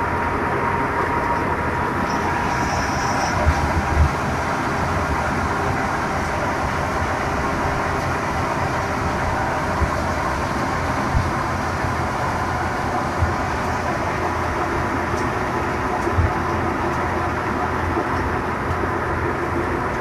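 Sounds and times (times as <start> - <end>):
threshing machine running: 0.2 - 20.0.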